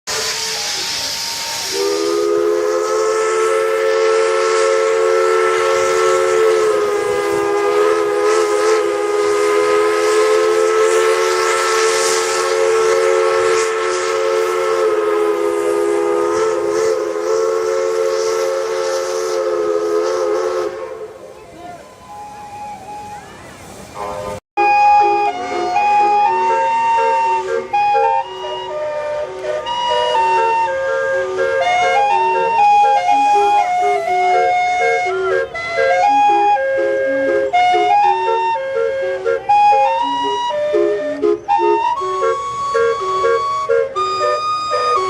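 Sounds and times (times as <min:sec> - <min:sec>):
steam hissing: 0:00.1 - 0:45.0
steam whistle chord: 0:00.1 - 0:45.0.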